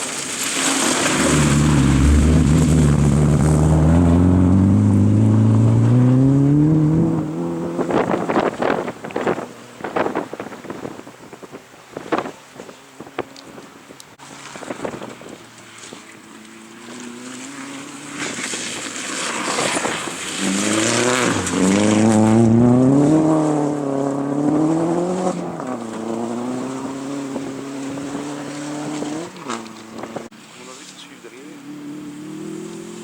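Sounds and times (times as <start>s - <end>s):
rally car passing at speed: 0.0s - 33.0s.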